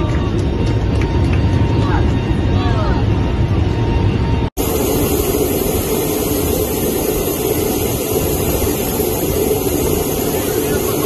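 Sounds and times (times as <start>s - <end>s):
aircraft drone inside cabin: 0.0s - 11.0s
hissy aircraft noise outside: 0.0s - 11.0s.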